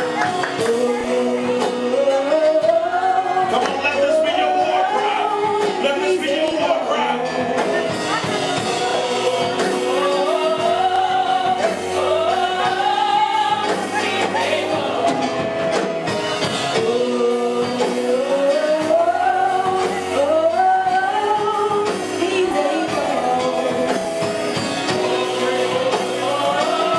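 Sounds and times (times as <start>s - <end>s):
person singing gospel: 0.0s - 26.9s.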